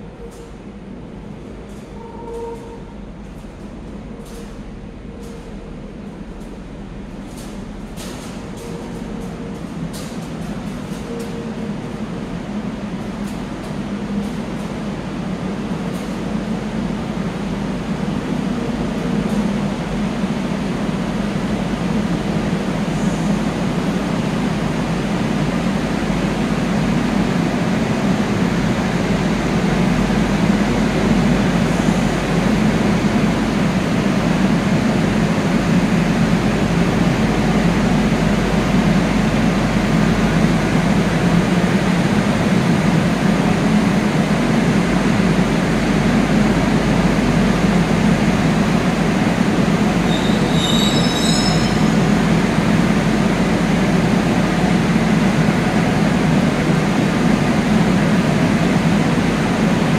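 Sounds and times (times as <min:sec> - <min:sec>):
train low hum and rumble: 0:00.0 - 0:59.9.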